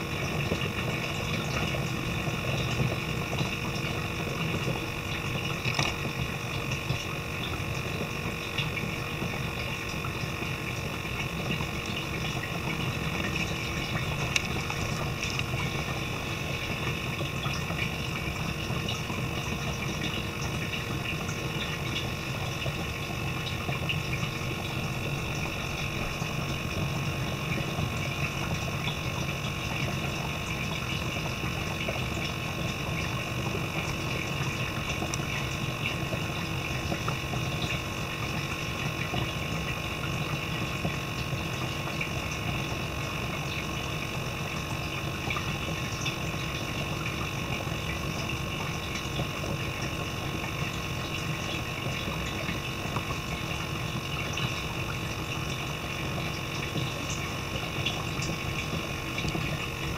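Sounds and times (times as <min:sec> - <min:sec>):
small water pump humming: 0:00.0 - 0:59.9.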